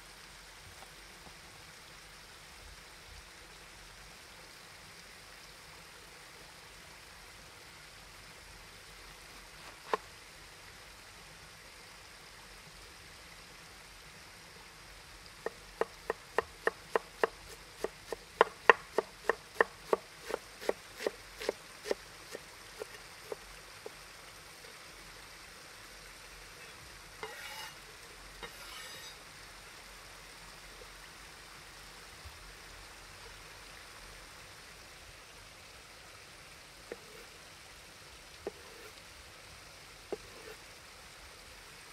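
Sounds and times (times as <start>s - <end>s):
faint steady hiss: 0.0s - 41.9s.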